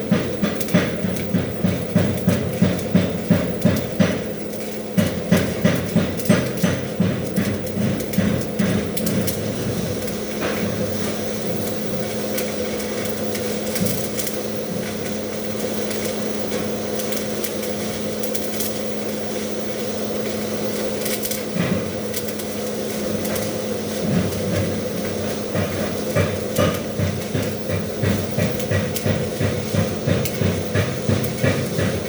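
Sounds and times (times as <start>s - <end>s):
welding arc crackling: 0.0s - 32.0s.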